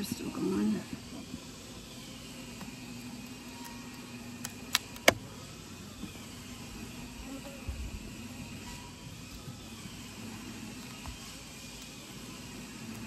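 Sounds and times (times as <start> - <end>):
bees humming: 0.0 - 13.0.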